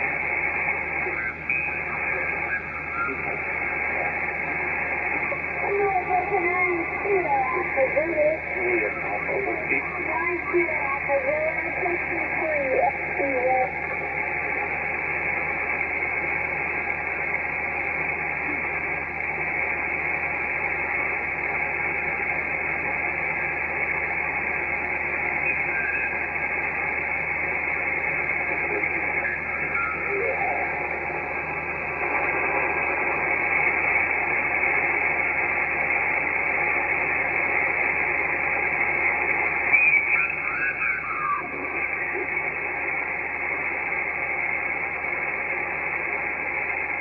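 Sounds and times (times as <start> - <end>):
mistuned radio voices: 0.0 - 47.0
radio receiver hiss: 0.0 - 47.0.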